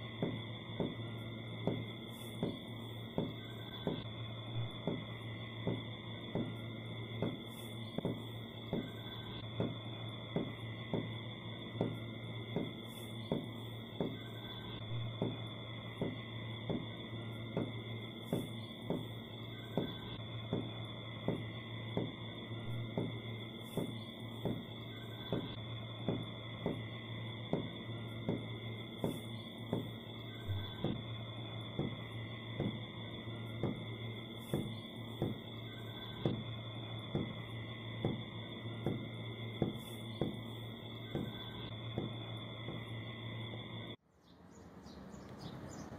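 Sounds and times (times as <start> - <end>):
ringing high drone tones: 0.0 - 44.0
soft low thumps: 0.0 - 44.0
low hum: 0.0 - 45.4.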